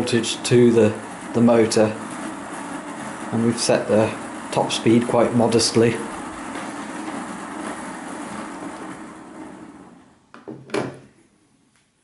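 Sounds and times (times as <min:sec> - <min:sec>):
model locomotive motor and wheels: 0:00.0 - 0:10.4.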